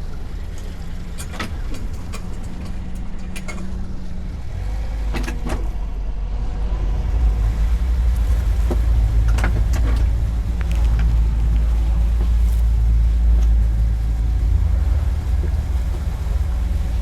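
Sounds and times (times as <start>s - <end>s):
boat engine rumbling: 0.0s - 17.0s
water noise: 0.0s - 17.0s
wind: 0.0s - 17.0s.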